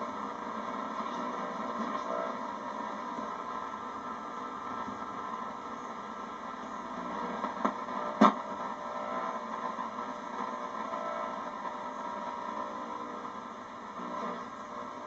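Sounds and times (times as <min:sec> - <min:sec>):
radio static: 0:00.0 - 0:15.0.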